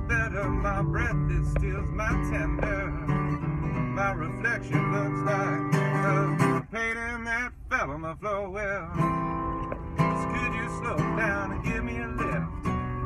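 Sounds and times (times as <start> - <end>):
man singing with vibrato: 0.0 - 12.7
acoustic guitar strumming: 0.0 - 13.0.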